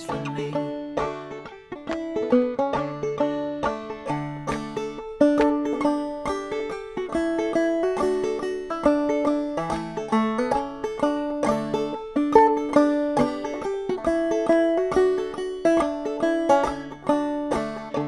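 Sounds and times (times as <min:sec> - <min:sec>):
banjo plucking and strumming: 0:00.0 - 0:18.0.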